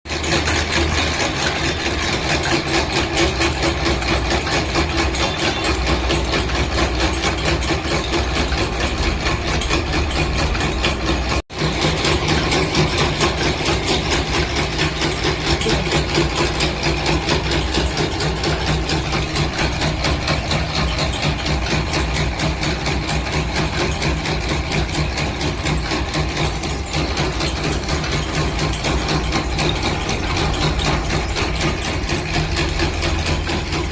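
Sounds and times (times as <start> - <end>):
machinery running with pulsing: 0.1 - 33.9.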